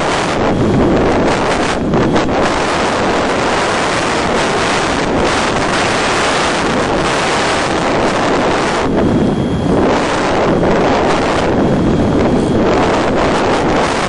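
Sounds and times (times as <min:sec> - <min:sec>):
loud wind rush: 0:00.0 - 0:14.0.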